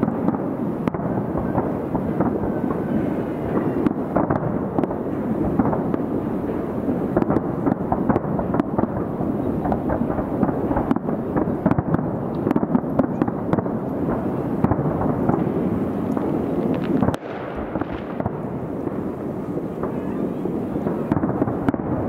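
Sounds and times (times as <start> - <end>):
distant fireworks rumble: 0.0 - 22.0.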